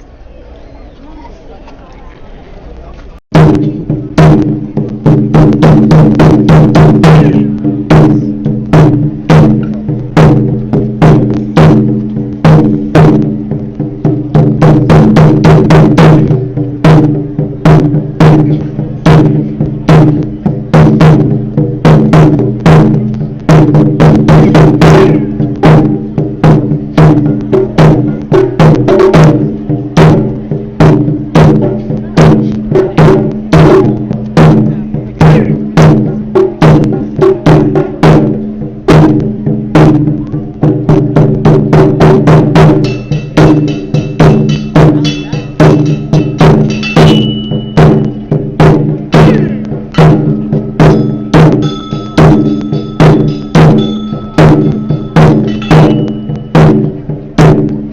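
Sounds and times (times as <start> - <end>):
taiko drums played by ensemble: 3.3 - 57.9.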